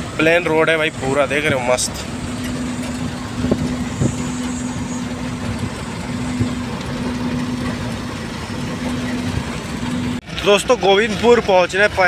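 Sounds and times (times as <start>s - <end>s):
road noise: 0.0s - 12.0s
truck engine hum: 0.0s - 12.0s.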